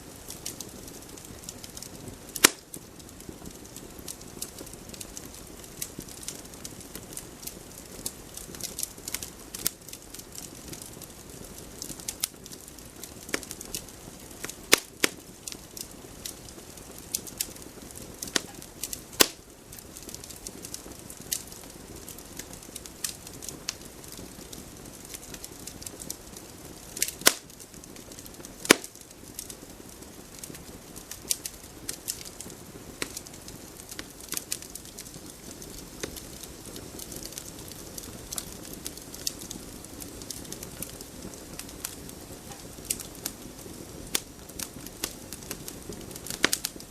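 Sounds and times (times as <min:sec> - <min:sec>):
low rush of flame: 0:00.0 - 0:46.9
wood crackling and popping: 0:00.0 - 0:46.9.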